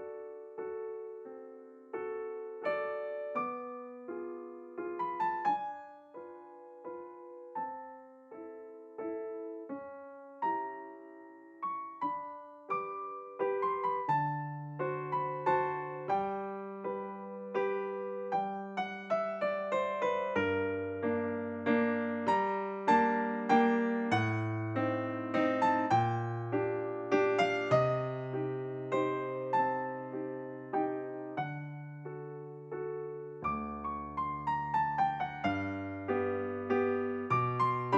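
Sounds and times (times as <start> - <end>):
piano melody: 0.0 - 37.9.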